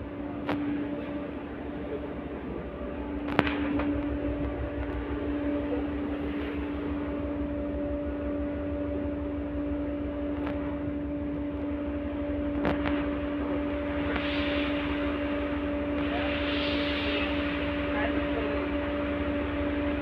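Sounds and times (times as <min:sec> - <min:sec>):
electrical hum: 0:00.0 - 0:20.0
tram rumbling: 0:00.0 - 0:20.0.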